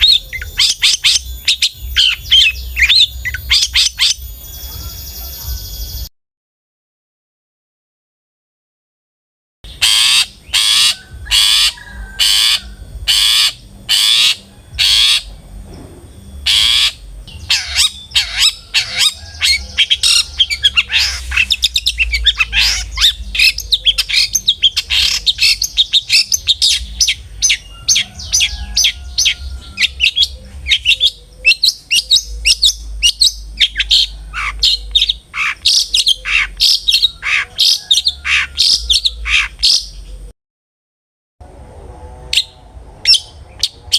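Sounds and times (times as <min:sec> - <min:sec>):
bird harsh calls: 0:00.0 - 0:05.7, 0:09.7 - 0:15.4, 0:16.2 - 0:40.3
bird chattering song: 0:00.0 - 0:06.1, 0:09.7 - 0:15.4, 0:16.1 - 0:40.3.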